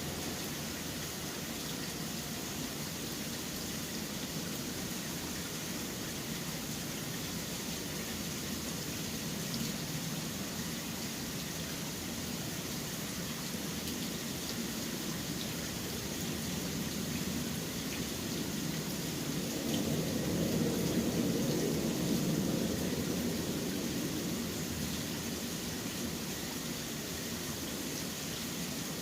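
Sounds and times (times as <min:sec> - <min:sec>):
rain hiss: 0:00.0 - 0:29.0.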